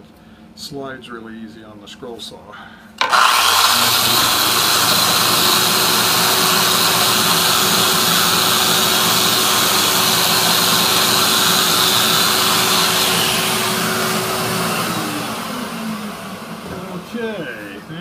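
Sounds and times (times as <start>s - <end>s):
electric sander on plywood: 3.0s - 17.7s.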